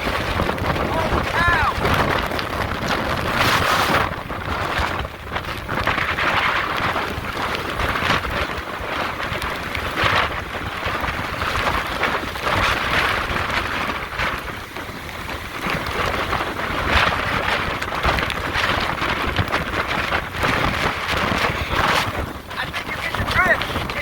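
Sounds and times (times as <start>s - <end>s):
driving rain: 0.0s - 24.0s
wind buffeting microphone: 0.0s - 24.0s.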